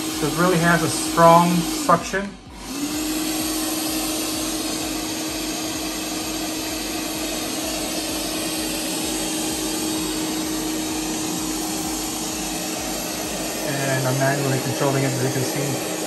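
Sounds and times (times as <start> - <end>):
robot vacuum fan whirring: 0.0 - 16.0
steady hum: 0.0 - 16.0.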